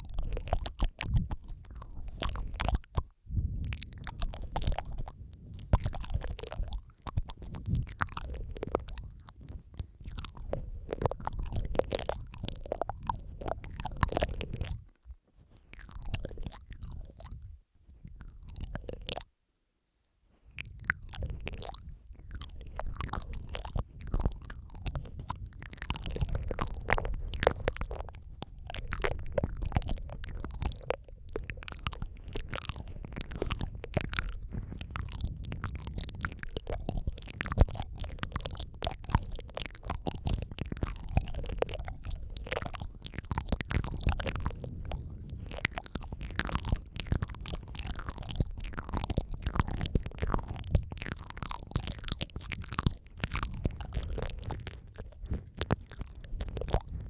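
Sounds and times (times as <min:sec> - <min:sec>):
wet mouth clicks and smacks: 0:00.0 - 0:19.3, 0:20.3 - 0:57.0.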